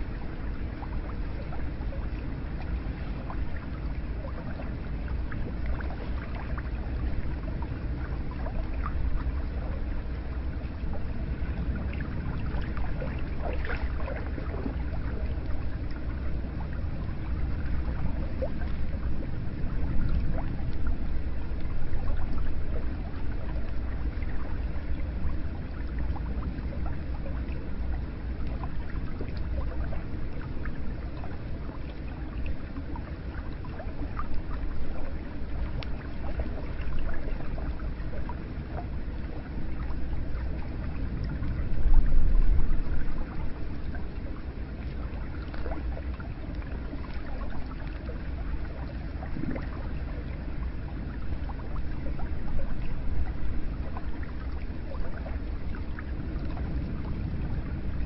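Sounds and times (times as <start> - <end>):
water drips and splashes: 0.0 - 58.0.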